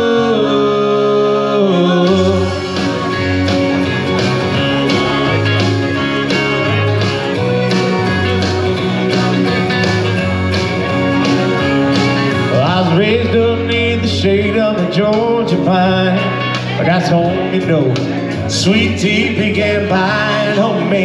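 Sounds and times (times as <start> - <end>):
country band with guitar: 0.0 - 21.0
steady drum beat: 2.1 - 21.0.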